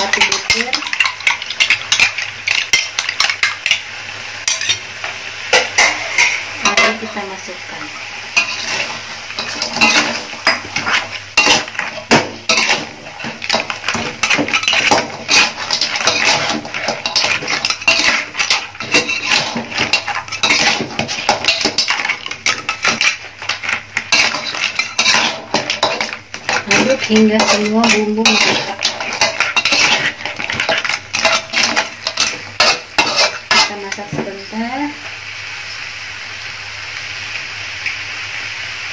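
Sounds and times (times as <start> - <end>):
metal spatula scraping wok: 0.0 - 3.8, 4.4 - 34.5.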